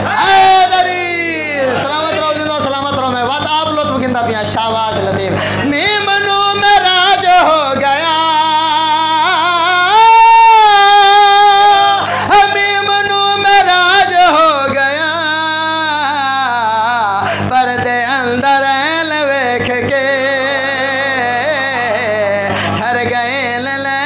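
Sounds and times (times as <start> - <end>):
man singing solo: 0.0 - 24.0.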